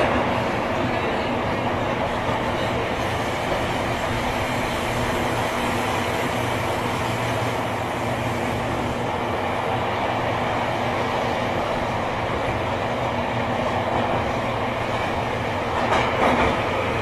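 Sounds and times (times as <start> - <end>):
train motor humming: 0.0 - 17.0
wheel and rail rumble: 0.0 - 17.0.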